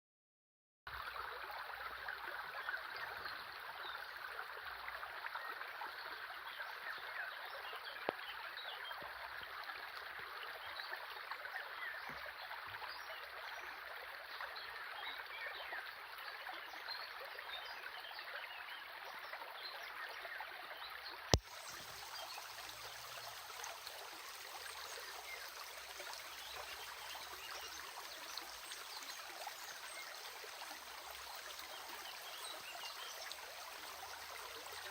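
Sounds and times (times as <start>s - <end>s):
stream water trickling: 0.9s - 34.9s.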